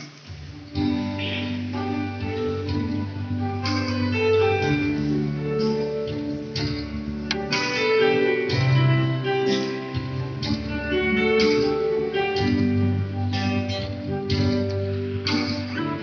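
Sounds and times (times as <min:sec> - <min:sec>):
guitar-led instrumental music: 0:00.0 - 0:16.0.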